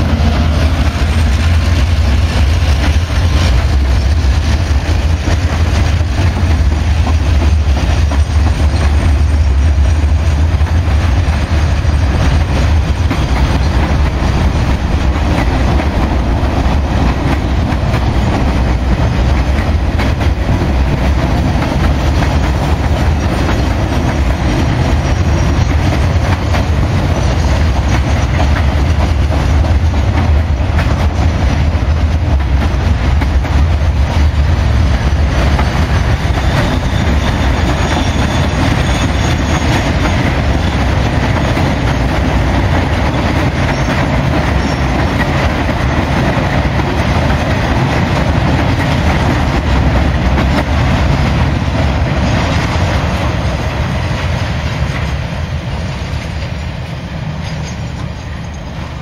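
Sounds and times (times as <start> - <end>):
steel wheels rumbling on rails: 0.0 - 59.0
wheels clicking over rail joints: 0.0 - 59.0.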